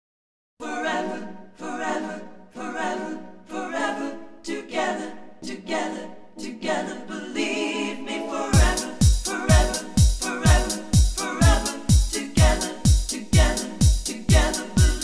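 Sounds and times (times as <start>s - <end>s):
unaccompanied voices singing: 0.6s - 15.0s.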